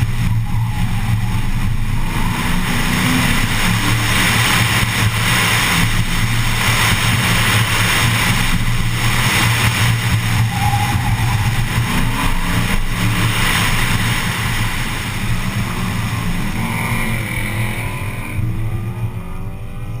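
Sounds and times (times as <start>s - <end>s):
car engine humming: 0.0s - 20.0s
road and wind noise: 0.0s - 20.0s.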